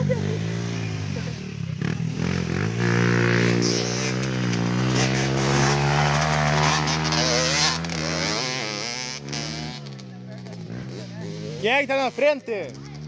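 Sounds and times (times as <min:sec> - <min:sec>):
small motorbike engine revving: 0:00.0 - 0:13.0.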